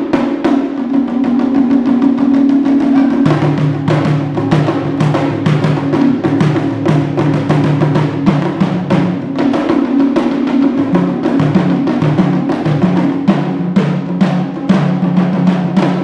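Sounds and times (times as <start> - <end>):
taiko drums: 0.0 - 16.0.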